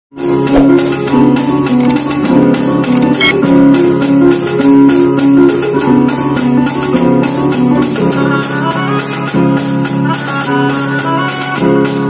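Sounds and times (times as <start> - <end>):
electronic keyboard melody: 0.1 - 12.0
drum and percussion beat: 0.2 - 12.0.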